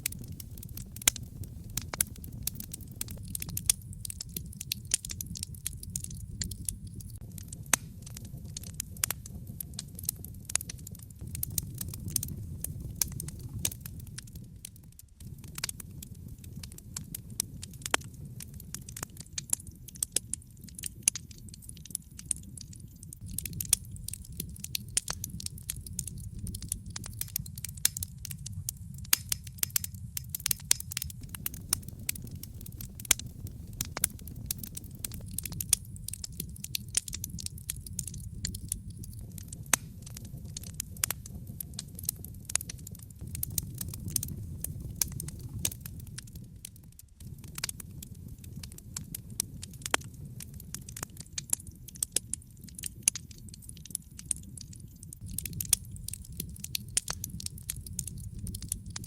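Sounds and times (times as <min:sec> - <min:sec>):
low fire rumble: 0:00.0 - 0:59.0
wood fire crackling: 0:00.0 - 0:59.0.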